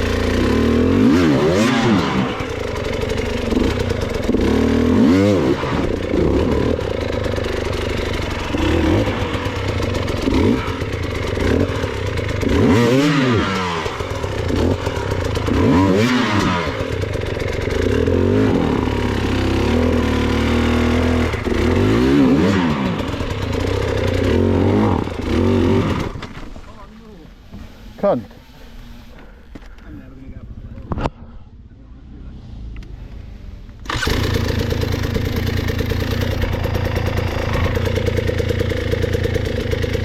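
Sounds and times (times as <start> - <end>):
motorbike engine revving: 0.0 - 26.4, 33.8 - 40.0.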